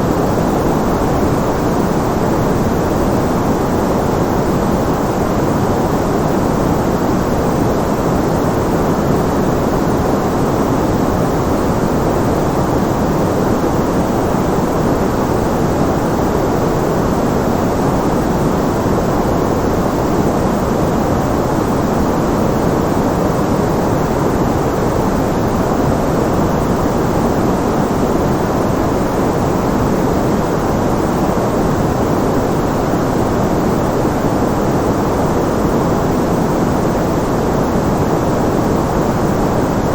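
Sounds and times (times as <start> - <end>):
low-pitched white noise hiss: 0.0 - 39.9.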